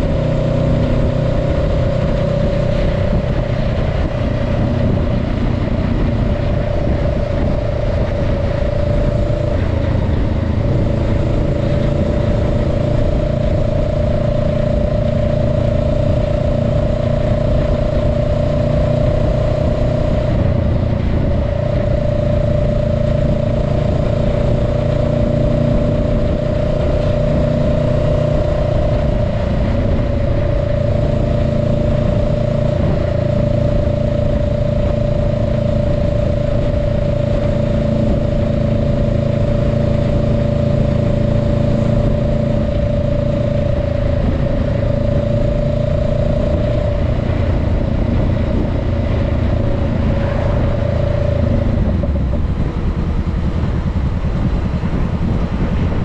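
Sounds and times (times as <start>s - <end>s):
motorcycle engine cruising: 0.0s - 56.0s
wind rushing past microphone: 0.0s - 56.0s.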